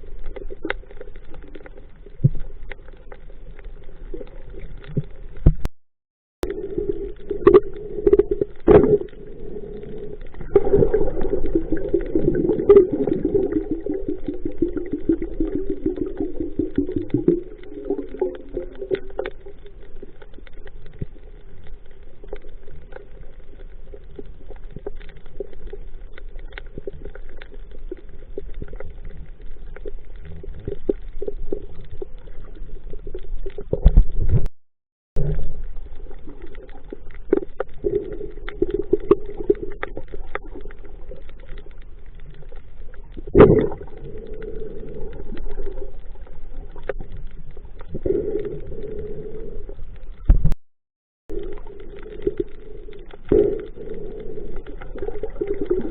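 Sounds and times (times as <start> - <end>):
small crackling clicks: 0.0 - 5.7, 6.4 - 34.5, 35.2 - 50.6, 51.3 - 55.9
underwater rumble: 0.0 - 5.7, 6.4 - 34.5, 35.1 - 50.6, 51.2 - 55.9
water gurgling: 0.0 - 5.7, 6.4 - 34.5, 35.2 - 50.6, 51.3 - 55.9.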